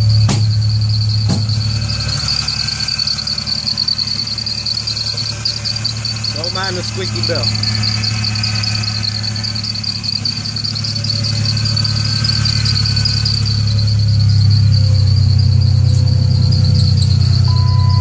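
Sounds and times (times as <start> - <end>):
drive belt squealing: 0.0 - 18.0
engine running with misfire: 0.0 - 18.0
steady beep: 0.0 - 18.0.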